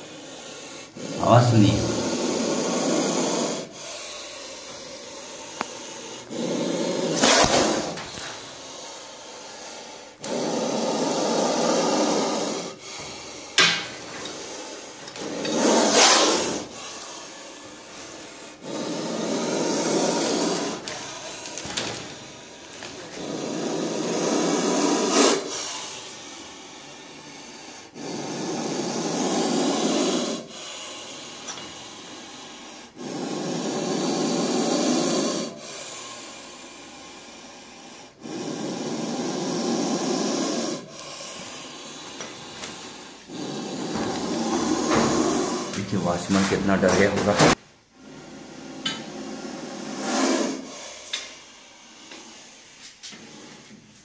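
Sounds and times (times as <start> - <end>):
snake hissing loudly: 0.0 - 54.0.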